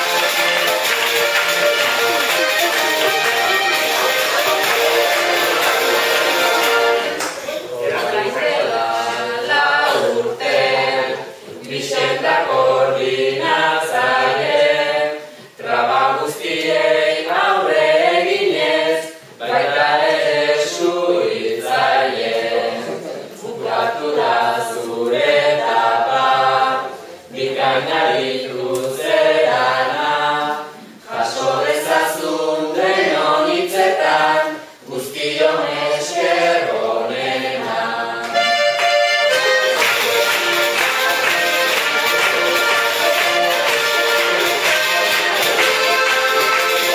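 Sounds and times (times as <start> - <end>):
group singing unaccompanied: 0.0 - 46.9.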